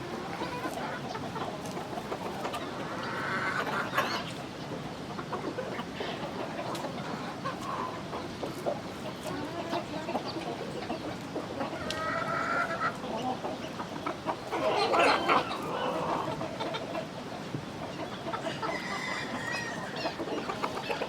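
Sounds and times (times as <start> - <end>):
chickens clucking: 0.0 - 21.0
chickens squawking: 0.0 - 21.0
drawn-out hen call: 0.0 - 21.0.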